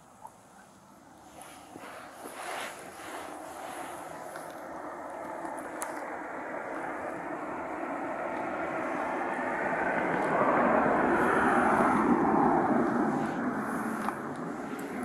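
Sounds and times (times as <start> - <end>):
vehicle passing on street: 1.5 - 15.0.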